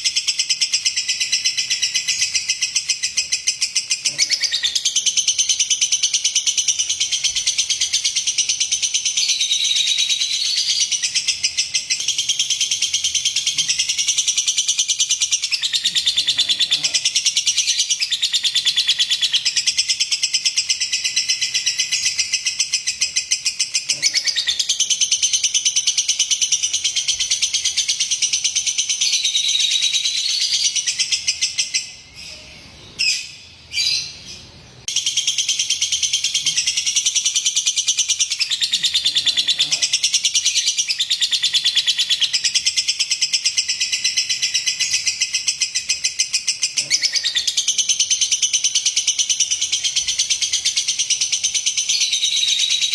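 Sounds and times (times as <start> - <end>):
lovebird chattering: 0.0 - 52.9.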